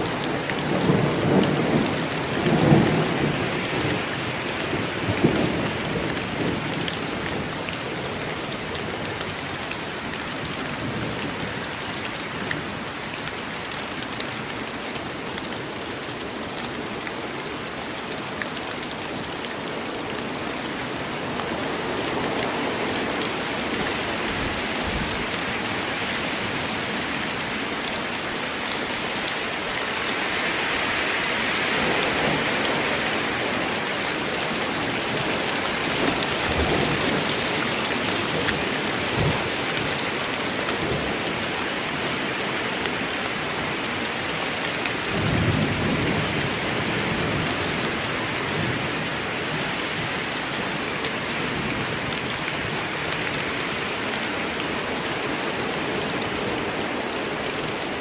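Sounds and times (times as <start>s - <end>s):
steady rain in forest: 0.0s - 58.0s.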